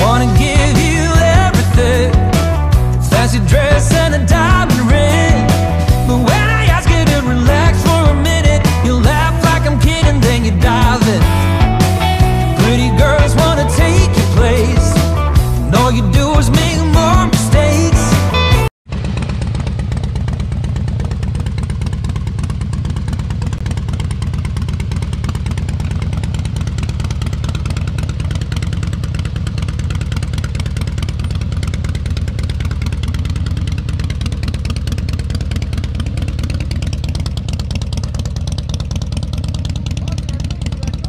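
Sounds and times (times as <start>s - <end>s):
motorcycle engine running: 0.0s - 41.0s
road noise: 0.0s - 41.0s.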